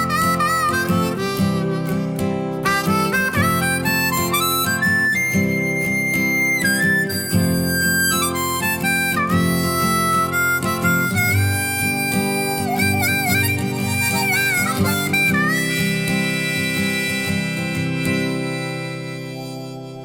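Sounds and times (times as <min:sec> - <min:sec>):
folk instrumental melody: 0:00.0 - 0:20.0.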